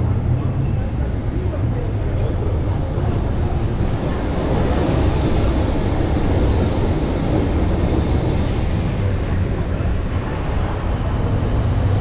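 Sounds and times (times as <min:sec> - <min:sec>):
passing tram: 0:00.0 - 0:12.0
tram wheels rumbling on rails: 0:00.0 - 0:12.0.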